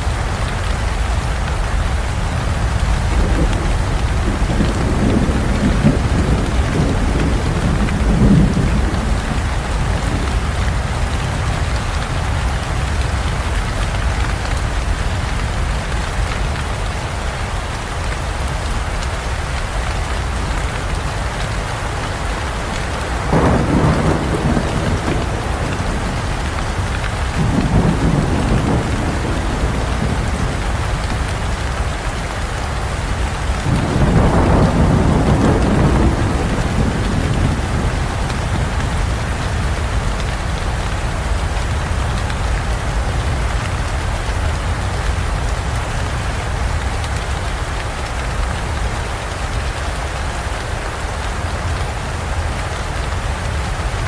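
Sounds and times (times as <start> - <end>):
thunder rumbling: 0.0 - 49.7
heavy rain: 0.0 - 54.0.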